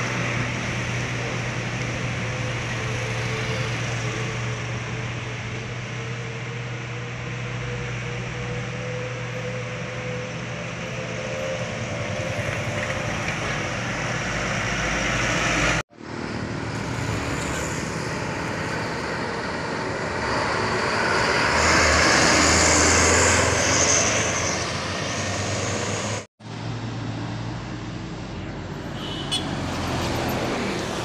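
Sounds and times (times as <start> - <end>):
trucks and traffic driving past: 0.0 - 31.0.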